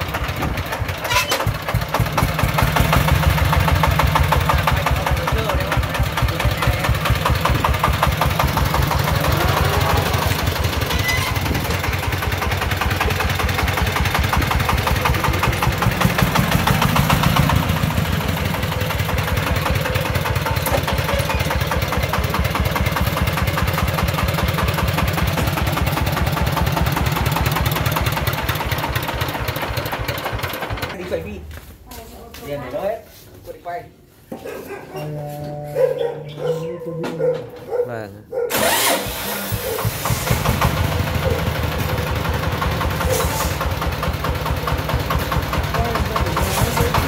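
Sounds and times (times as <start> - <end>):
diesel engine chugging: 0.0 - 31.4, 35.8 - 47.0.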